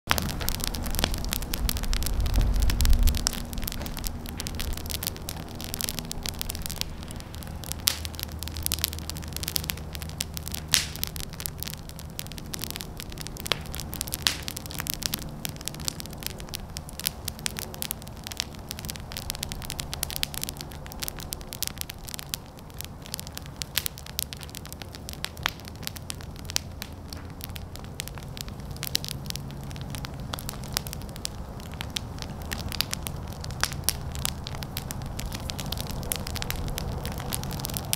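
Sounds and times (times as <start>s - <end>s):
fire crackling and popping: 0.0s - 37.9s.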